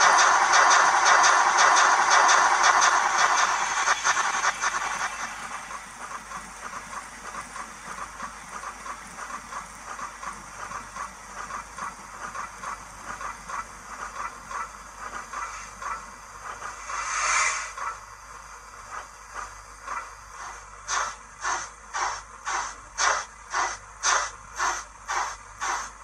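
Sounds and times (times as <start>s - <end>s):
steam hiss: 0.0s - 26.0s
steam locomotive exhaust chuffs: 0.0s - 26.0s.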